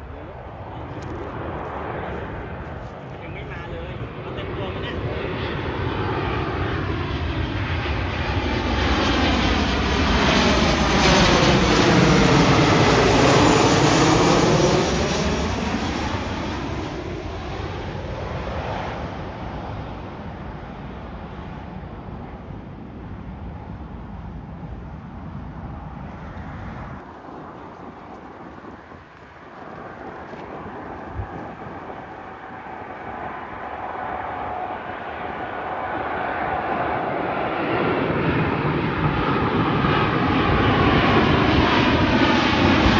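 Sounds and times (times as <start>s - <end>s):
jet airliner engine roar: 0.0s - 42.9s.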